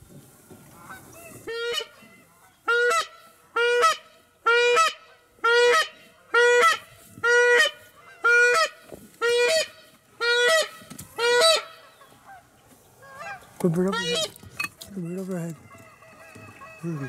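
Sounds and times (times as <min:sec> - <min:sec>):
goose honking: 0:00.7 - 0:17.0.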